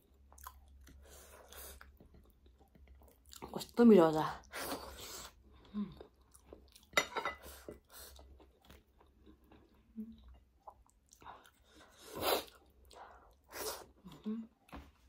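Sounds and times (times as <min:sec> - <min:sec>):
person chewing food: 0:00.0 - 0:03.5, 0:04.7 - 0:14.8.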